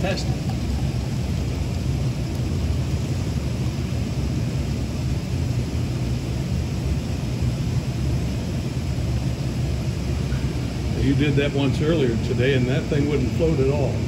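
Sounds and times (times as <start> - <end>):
blower fan: 0.0 - 14.0
boiling pans: 0.0 - 14.0.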